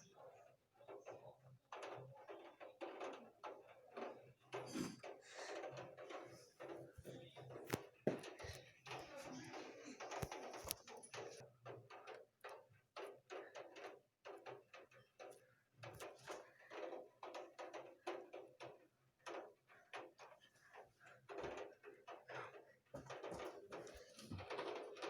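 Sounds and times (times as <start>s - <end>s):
raindrops tapping hard surface: 0.8s - 25.0s.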